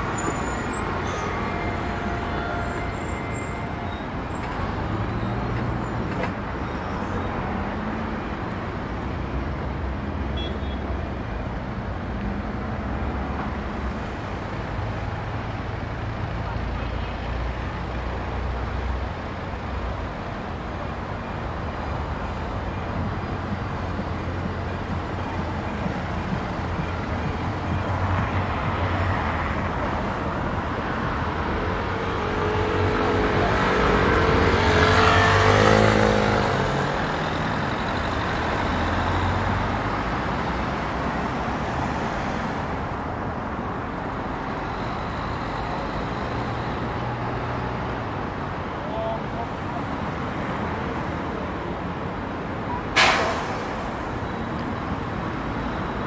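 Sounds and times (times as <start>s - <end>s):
city road traffic: 0.0s - 56.0s.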